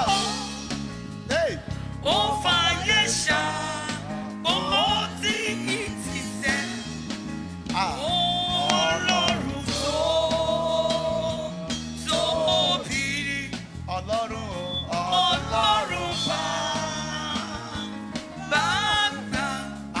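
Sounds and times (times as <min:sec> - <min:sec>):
band accompaniment: 0:00.0 - 0:20.0
person singing gospel: 0:00.0 - 0:20.0.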